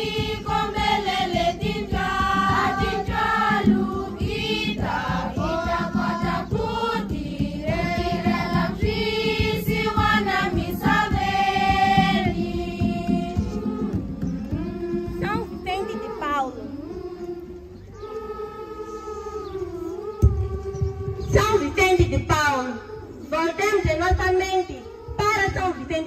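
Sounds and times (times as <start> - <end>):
children's choir singing a hymn: 0.0 - 23.3, 24.7 - 26.0.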